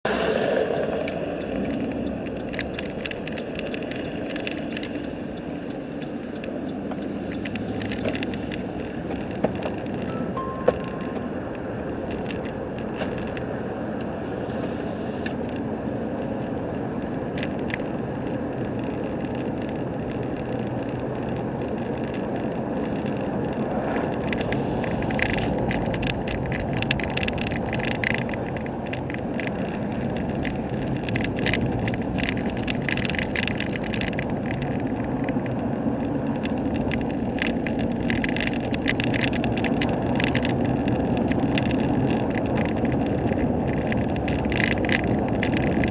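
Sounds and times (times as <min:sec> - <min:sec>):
road and engine noise: 0:00.0 - 0:45.9
sharp ticks and crackles: 0:00.7 - 0:45.9.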